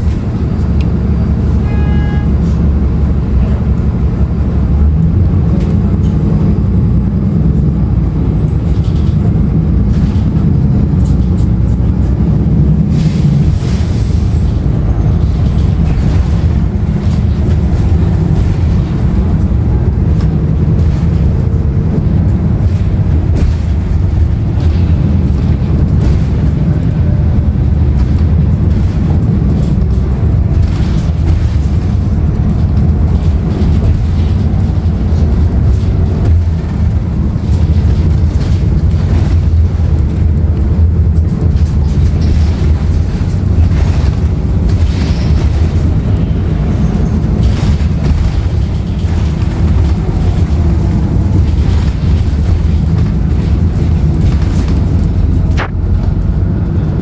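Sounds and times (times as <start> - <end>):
bus diesel engine drone: 0.0 - 57.0
road noise: 0.0 - 57.0.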